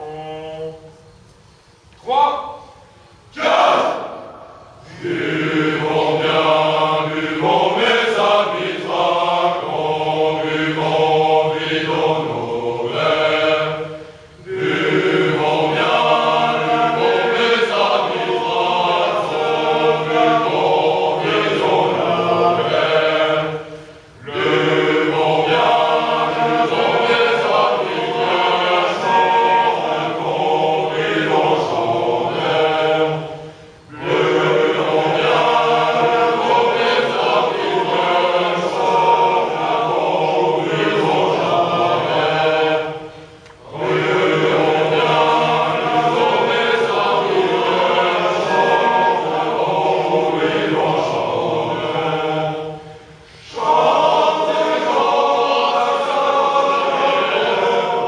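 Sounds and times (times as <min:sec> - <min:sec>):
male chorus singing a cappella: 0:00.0 - 0:01.2, 0:03.3 - 0:58.0.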